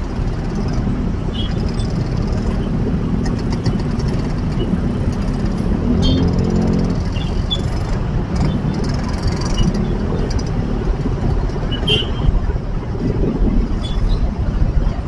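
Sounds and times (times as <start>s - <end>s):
motorcycle and car engines: 0.0s - 15.0s.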